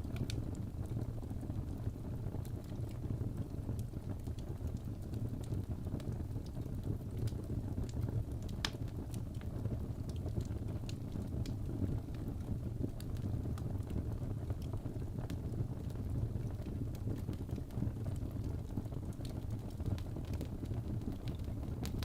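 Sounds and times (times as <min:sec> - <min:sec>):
fire flames rumbling: 0:00.0 - 0:22.0
wood fire crackles and pops: 0:00.0 - 0:22.0.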